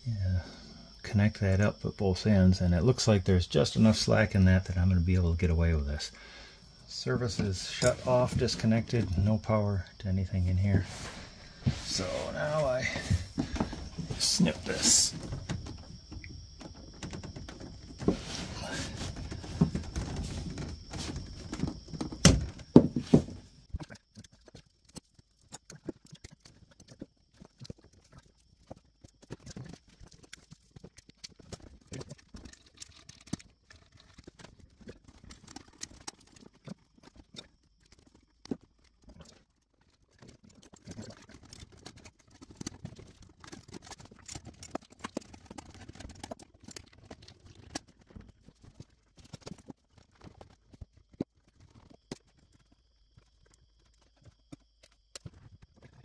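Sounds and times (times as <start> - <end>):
wires clicking and rustling: 10.7 - 56.0.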